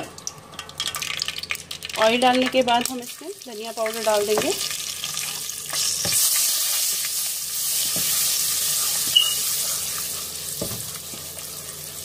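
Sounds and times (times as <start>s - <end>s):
spice sizzling in hot oil: 0.1s - 12.0s.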